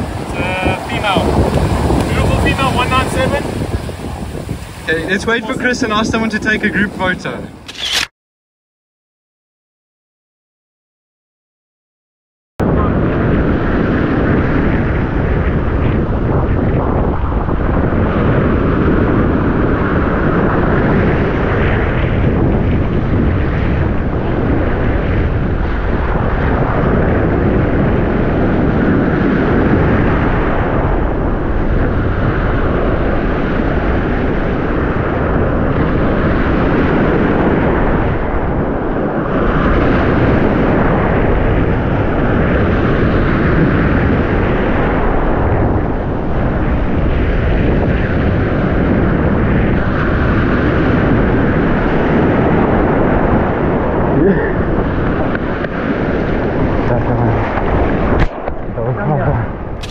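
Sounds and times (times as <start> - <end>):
surf: 0.0 - 7.5, 12.6 - 59.9
wind buffeting microphone: 0.0 - 8.1, 12.6 - 59.9
wind roaring: 0.0 - 8.1, 12.6 - 59.9.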